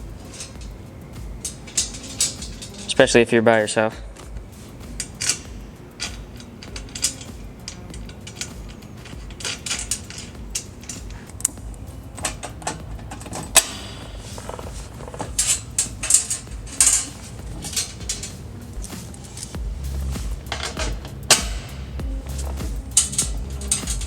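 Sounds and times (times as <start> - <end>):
metal basket clicks and rattles: 0.0 - 24.0.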